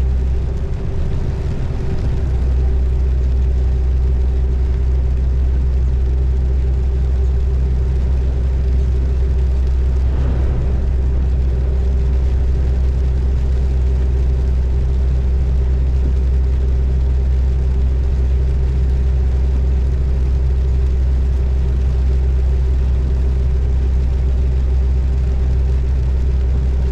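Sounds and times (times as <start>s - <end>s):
car engine and road rumble: 0.0s - 26.9s.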